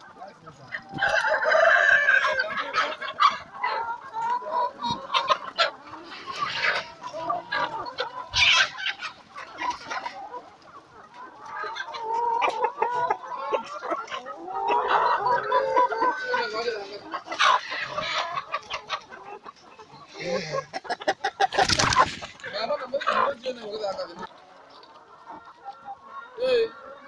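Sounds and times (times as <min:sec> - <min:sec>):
chicken squawk: 0:00.0 - 0:27.0
chickens clucking: 0:00.0 - 0:27.0.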